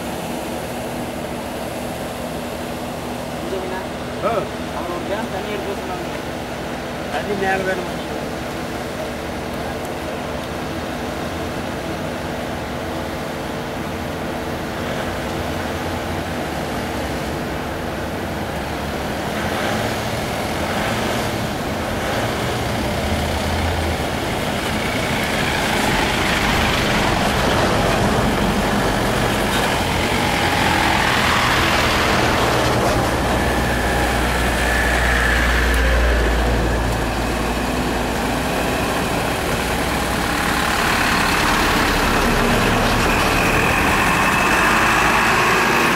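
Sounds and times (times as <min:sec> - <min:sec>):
deep rumble of passing bus: 0:00.0 - 0:45.9
diesel buses pulling away: 0:00.0 - 0:45.9.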